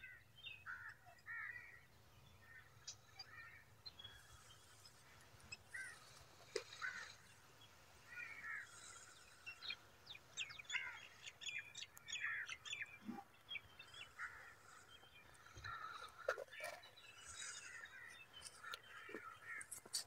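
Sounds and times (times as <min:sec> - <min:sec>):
birds calling and chirping: 0:00.0 - 0:20.0.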